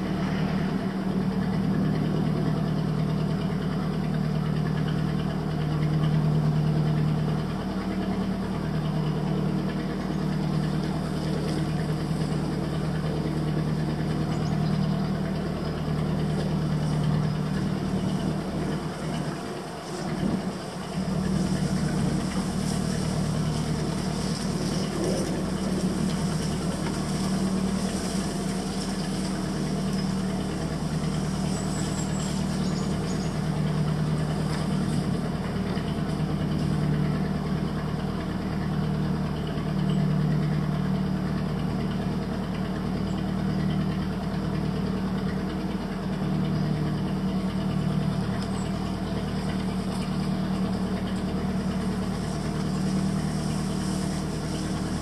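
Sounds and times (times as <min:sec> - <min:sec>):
small boat engine humming: 0:00.0 - 0:55.0.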